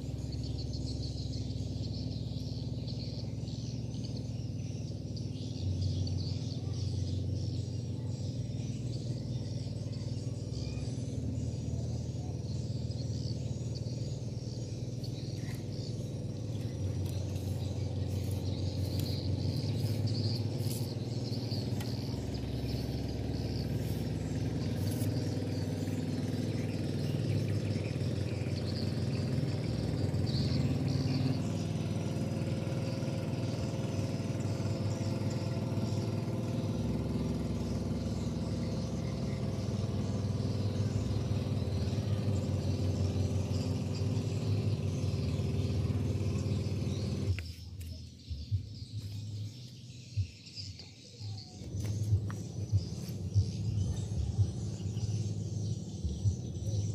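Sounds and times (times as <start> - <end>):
birds chirping: 0.0 - 56.9
steady low hum: 0.0 - 56.9.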